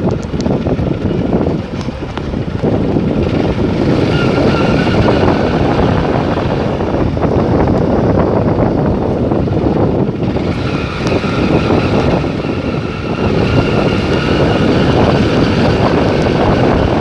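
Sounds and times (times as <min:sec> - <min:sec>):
vehicle road running noise: 0:00.0 - 0:17.0
wind rushing over microphone: 0:00.0 - 0:17.0.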